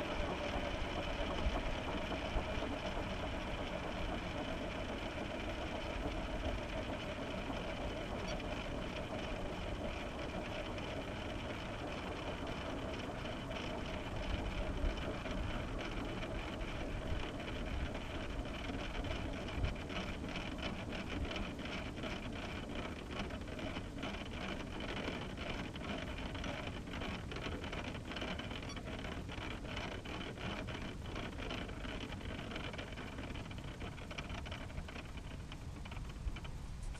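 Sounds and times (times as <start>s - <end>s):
turbine-like whine: 0.0s - 36.9s.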